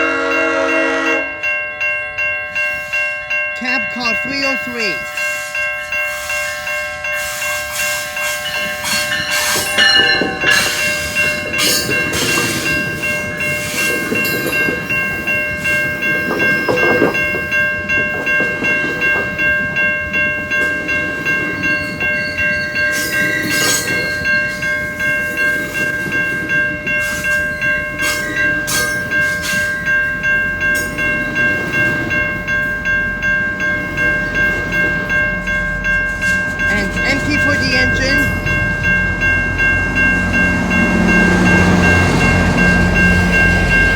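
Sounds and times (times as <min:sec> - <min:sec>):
level crossing bell ringing: 0:00.0 - 0:43.9
train wheels clattering: 0:07.1 - 0:43.9.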